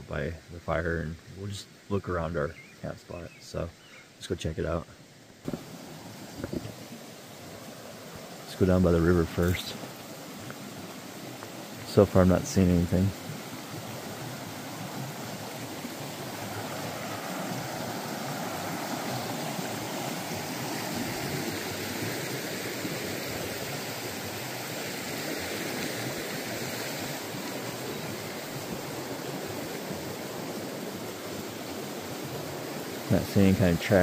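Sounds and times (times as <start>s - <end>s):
river water rushing over rocks: 5.5s - 34.0s.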